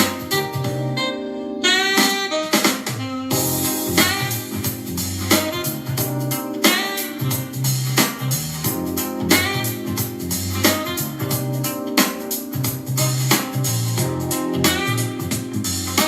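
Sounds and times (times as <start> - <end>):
instrumental music with steady beat: 0.0 - 16.0.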